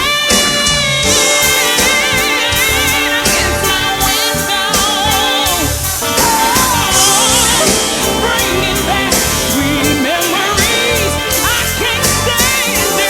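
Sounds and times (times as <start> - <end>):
soul band playing: 0.0 - 13.0
person singing wordless runs: 1.3 - 13.0.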